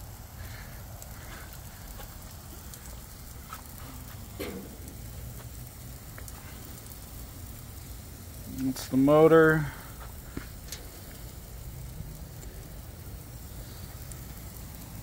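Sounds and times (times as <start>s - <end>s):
low outdoor rumble: 0.0s - 15.0s
faint crackling: 0.4s - 15.0s.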